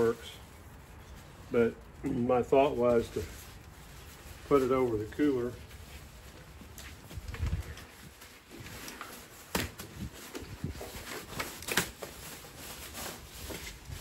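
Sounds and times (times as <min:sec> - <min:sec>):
nylon cover rustling: 0:00.0 - 0:14.0.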